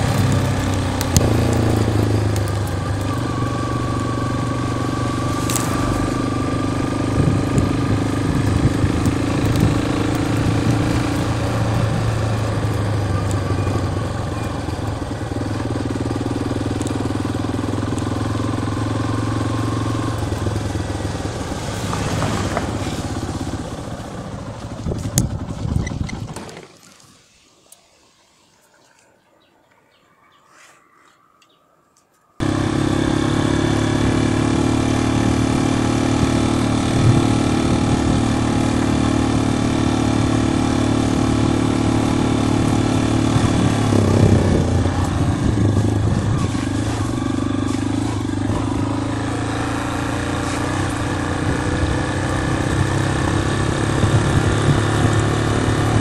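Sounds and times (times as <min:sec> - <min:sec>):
motorcycle engine running: 0:00.0 - 0:26.7, 0:32.4 - 0:56.0
wind and road noise: 0:00.0 - 0:56.0.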